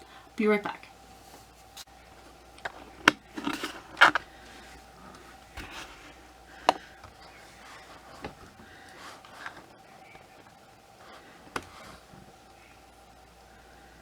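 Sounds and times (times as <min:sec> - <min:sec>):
scratchy rustle: 0:01.1 - 0:12.4.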